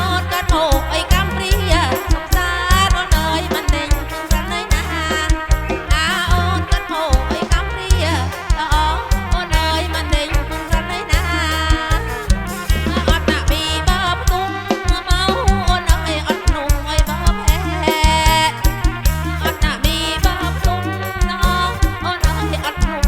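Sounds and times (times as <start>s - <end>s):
band music over loudspeakers: 0.0s - 23.0s.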